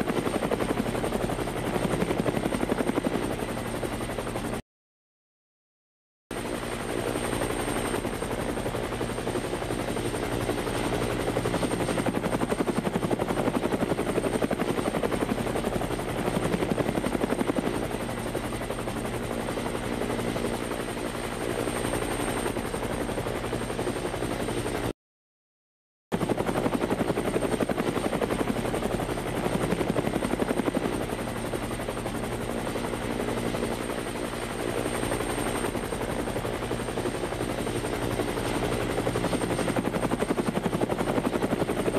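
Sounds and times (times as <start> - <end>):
helicopter rotor chopping: 0.0 - 4.6, 6.4 - 24.9, 26.2 - 41.9.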